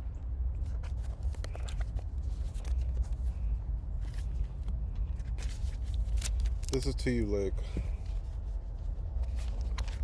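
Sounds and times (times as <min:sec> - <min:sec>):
handling clicks and rustles: 0:00.5 - 0:07.2, 0:08.0 - 0:10.0.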